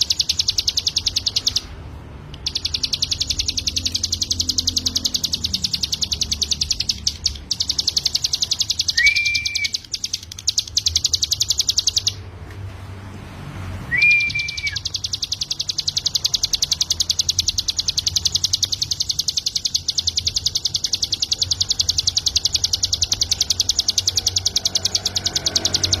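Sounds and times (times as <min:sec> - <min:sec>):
songbird trilling high notes: 0:00.0 - 0:01.8, 0:02.4 - 0:12.2, 0:13.9 - 0:26.0
low slurred whistle: 0:02.5 - 0:12.2, 0:13.9 - 0:26.0.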